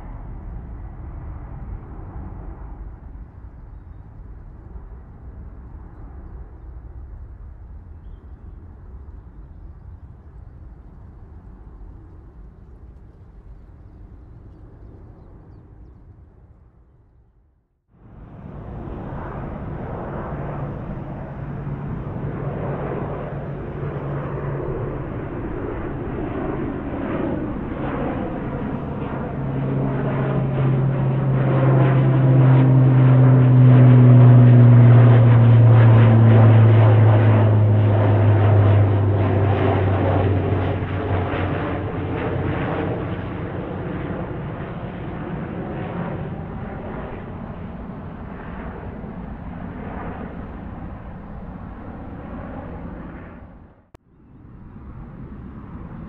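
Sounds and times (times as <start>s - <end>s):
airliner flying overhead: 0.0s - 56.0s.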